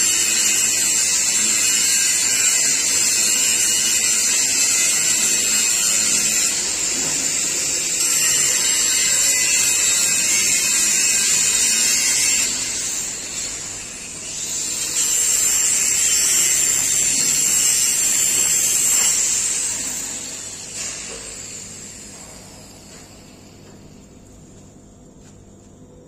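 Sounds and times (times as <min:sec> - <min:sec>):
angle grinder grinding steel: 0:00.0 - 0:22.2.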